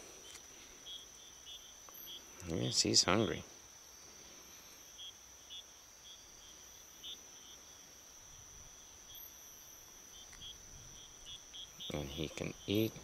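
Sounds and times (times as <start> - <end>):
high-pitched insect drone: 0.0 - 13.0
short insect chirps: 0.0 - 13.0.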